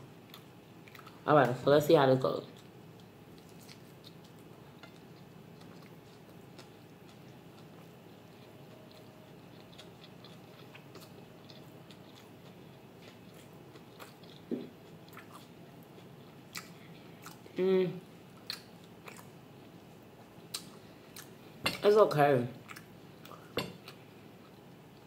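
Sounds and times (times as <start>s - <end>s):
person chewing: 0.3s - 1.2s, 2.5s - 17.6s, 18.3s - 21.5s, 22.6s - 25.0s.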